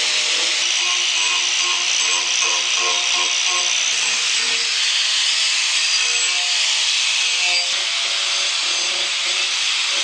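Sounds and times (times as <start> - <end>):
angle grinder grinding wood: 0.0 - 10.0.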